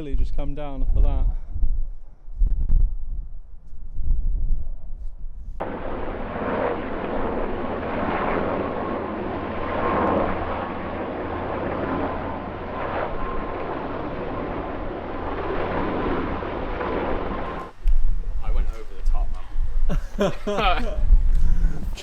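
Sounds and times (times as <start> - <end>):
low buffeting rumble: 0.0 - 22.0
wind roaring across microphone: 0.0 - 22.0.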